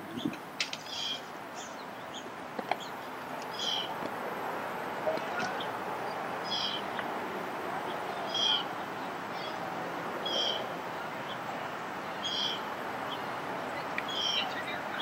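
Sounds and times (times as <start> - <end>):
bird calling: 0.0 - 4.0, 5.0 - 7.0, 7.9 - 9.6, 10.2 - 15.0
background hiss: 0.0 - 15.0.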